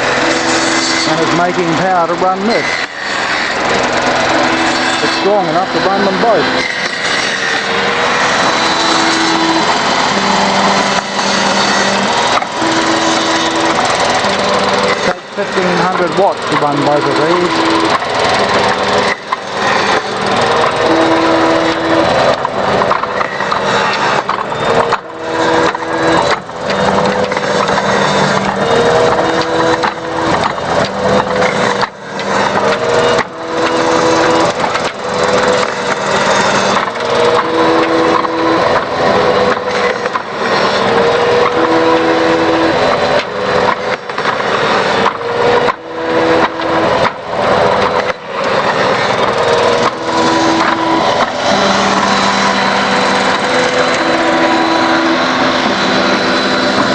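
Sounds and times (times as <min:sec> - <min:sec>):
engine-generator running: 0:00.0 - 0:56.9.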